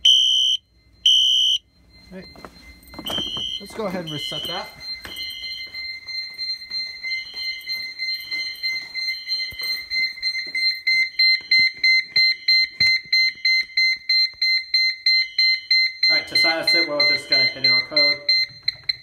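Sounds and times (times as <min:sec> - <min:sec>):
fire alarm horn blasts: 0:00.0 - 0:19.0
shrill rapid beeping: 0:00.0 - 0:19.0.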